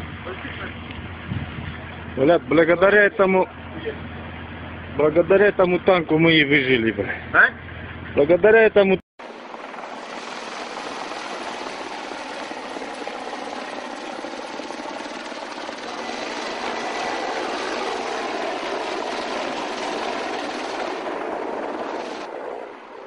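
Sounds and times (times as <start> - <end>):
helicopter flying overhead: 0.0 - 8.5, 9.2 - 23.0.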